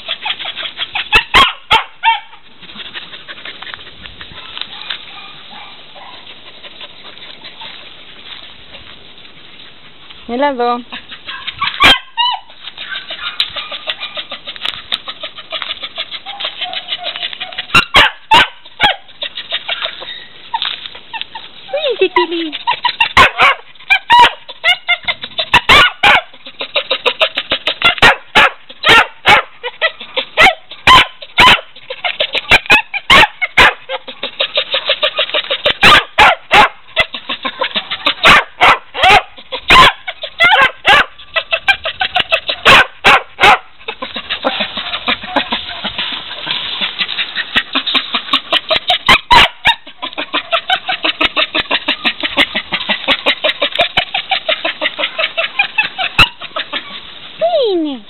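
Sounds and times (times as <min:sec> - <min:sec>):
dogs barking: 0:00.0 - 0:02.4, 0:04.4 - 0:06.5, 0:11.1 - 0:20.2, 0:23.0 - 0:57.1.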